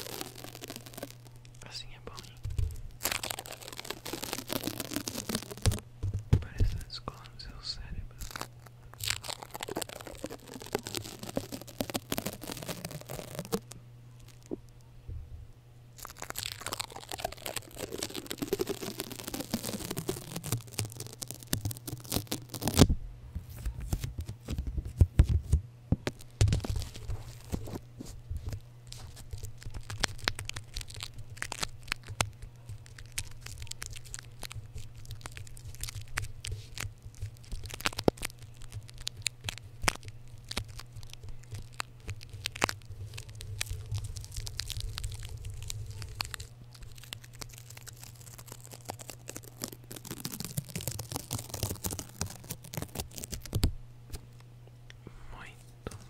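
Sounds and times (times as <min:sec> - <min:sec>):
tape tearing peel: 0:00.0 - 0:14.6, 0:16.0 - 0:53.7
sticky tape crackles and clicks: 0:00.0 - 0:14.8, 0:16.0 - 0:54.5
faint low hum: 0:00.0 - 0:56.0.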